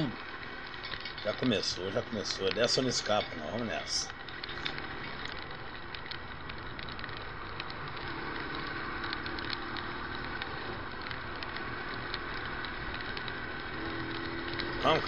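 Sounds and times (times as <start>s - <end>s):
faint engine hum: 0.0s - 15.0s
tyres on wet road: 0.0s - 15.0s.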